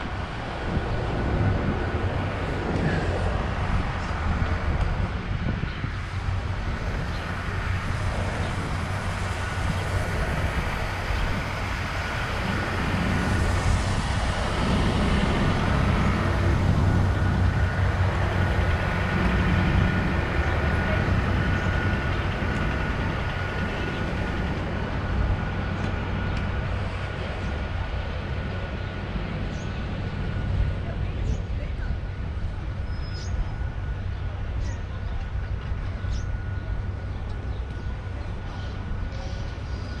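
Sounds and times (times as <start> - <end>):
motor vehicles rumbling: 0.0 - 40.0.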